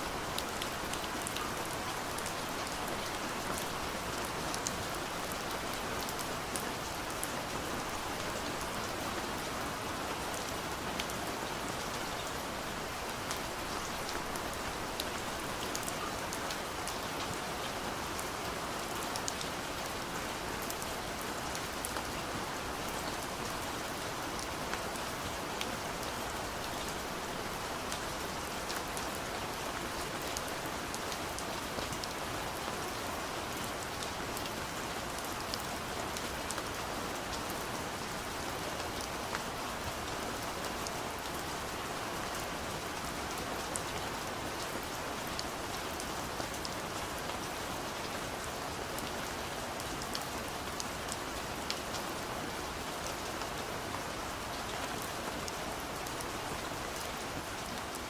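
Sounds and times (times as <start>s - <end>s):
rain on a window: 0.1s - 58.0s.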